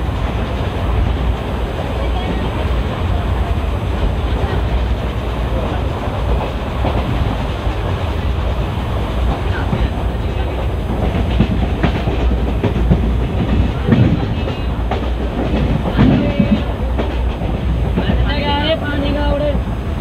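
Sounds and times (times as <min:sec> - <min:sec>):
wheels clacking over rail joints: 0:00.0 - 0:19.6
train wheels rumbling on rail: 0:00.0 - 0:20.0.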